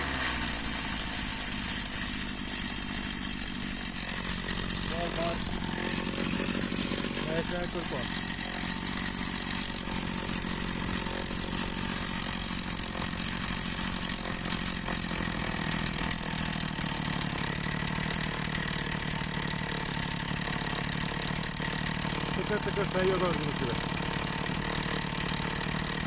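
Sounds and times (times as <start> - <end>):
two-stroke engine idling: 0.0 - 26.0.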